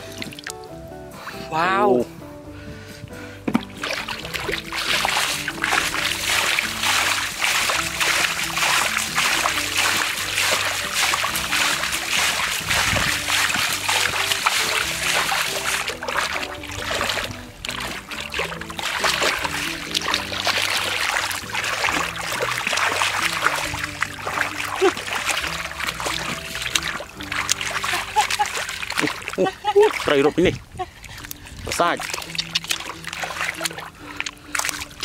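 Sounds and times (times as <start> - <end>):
background music: 0.0 - 35.0
mud and water splashing: 0.0 - 35.0.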